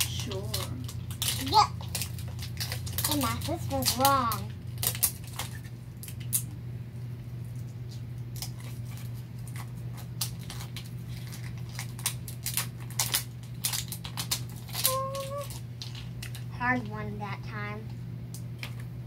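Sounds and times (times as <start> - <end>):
plastic wrapping crinkling: 0.0 - 6.6, 7.3 - 16.5
steady low hum: 0.0 - 19.0.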